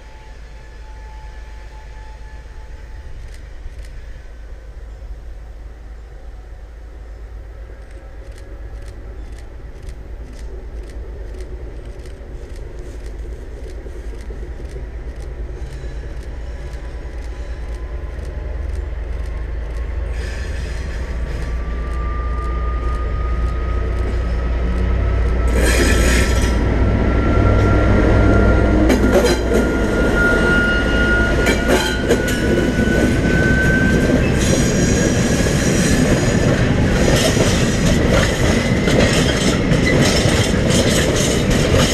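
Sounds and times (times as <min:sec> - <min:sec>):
rising whine: 0:00.0 - 0:38.9
diesel locomotive engine rumble: 0:00.0 - 0:41.9.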